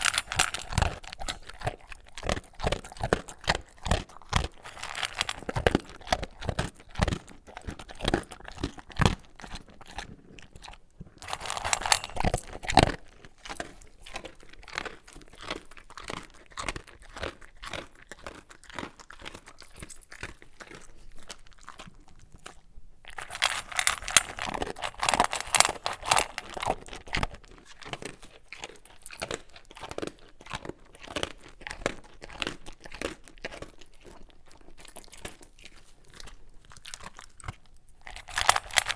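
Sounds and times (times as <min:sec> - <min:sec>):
dog crunching dry kibble: 0:00.0 - 0:38.9.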